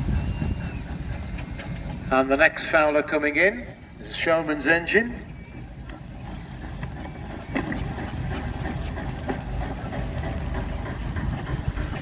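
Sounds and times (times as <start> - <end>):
engine knocks and clanks: 0.0 - 12.0
steam traction engine running: 0.0 - 12.0.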